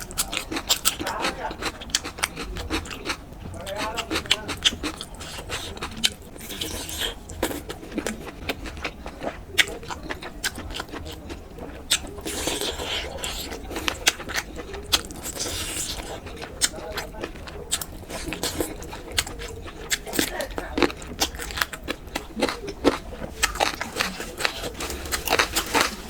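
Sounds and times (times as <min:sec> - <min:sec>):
wet chewing and lip smacking: 0:00.0 - 0:26.0.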